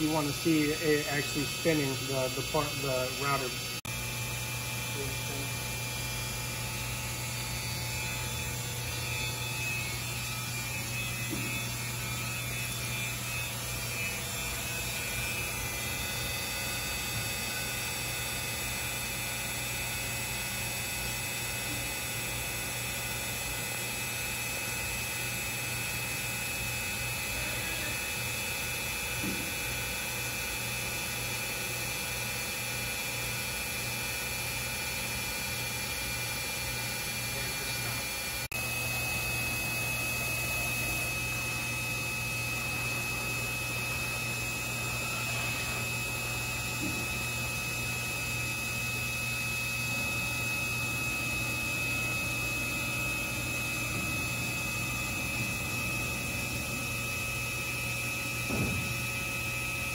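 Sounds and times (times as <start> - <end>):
machine hum with high whine: 0.0 - 59.9.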